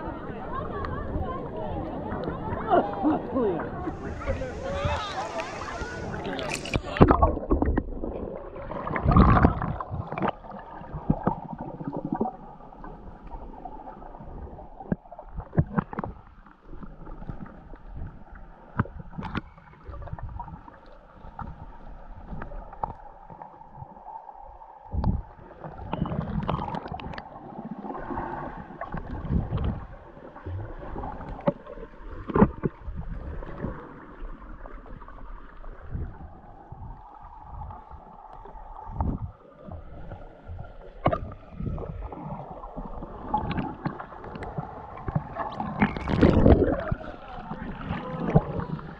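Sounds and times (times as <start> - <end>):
water gurgling underwater: 0.0 - 48.9.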